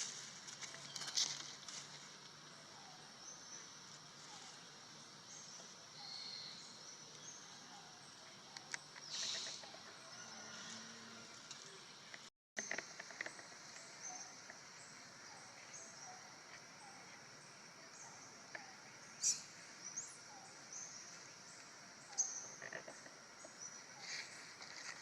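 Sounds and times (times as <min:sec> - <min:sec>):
outdoor ambience: 0:00.0 - 0:25.0.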